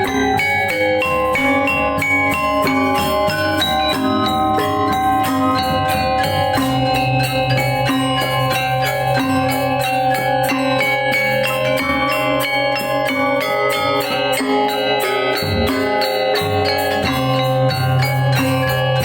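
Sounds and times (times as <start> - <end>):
gamelan ensemble playing: 0.0 - 19.0.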